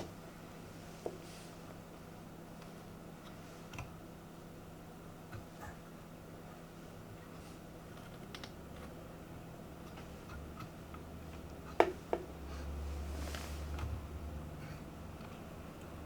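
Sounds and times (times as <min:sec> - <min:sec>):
faint low mains hum: 0:00.0 - 0:16.0.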